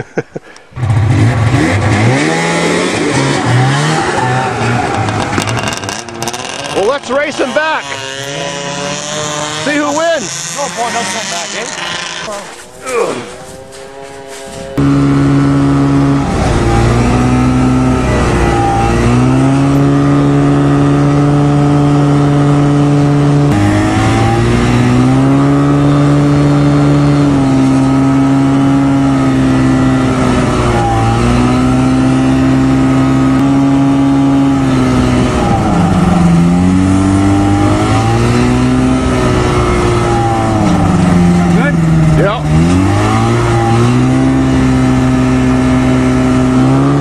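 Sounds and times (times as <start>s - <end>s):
snowmobile engine running hard: 0.0s - 47.0s.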